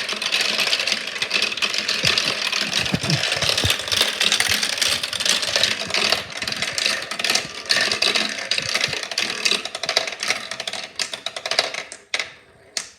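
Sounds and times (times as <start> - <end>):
marbles clattering down marble run: 0.0 - 12.4.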